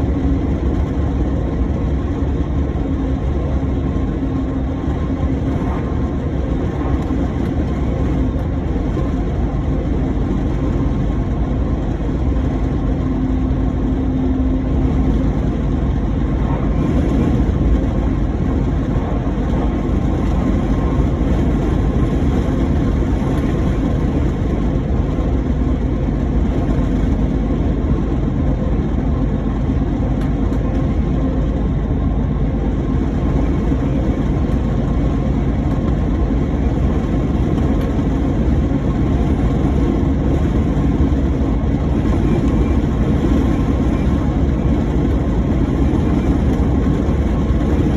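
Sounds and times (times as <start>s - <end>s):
road noise: 0.0s - 47.9s
truck engine drone: 0.0s - 47.9s.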